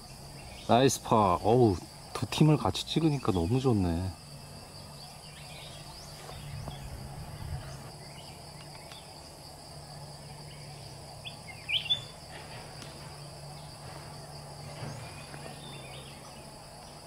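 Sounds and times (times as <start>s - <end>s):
bird chirping: 0.0s - 1.9s, 3.0s - 9.3s, 9.9s - 17.0s
high-pitched insect drone: 0.0s - 17.0s
low steady hum: 0.0s - 17.0s.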